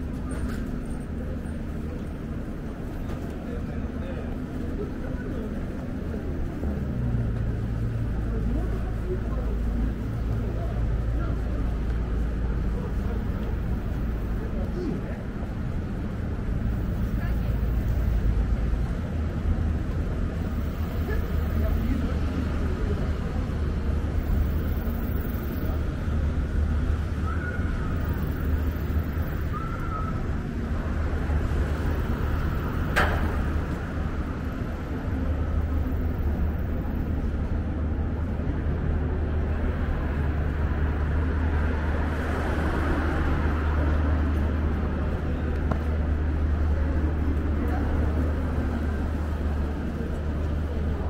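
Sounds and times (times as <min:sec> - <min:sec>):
low rumble of traffic: 0:00.0 - 0:51.0.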